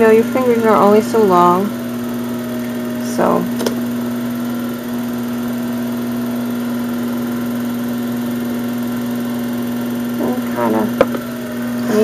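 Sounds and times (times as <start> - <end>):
pottery wheel humming: 0.0 - 12.0.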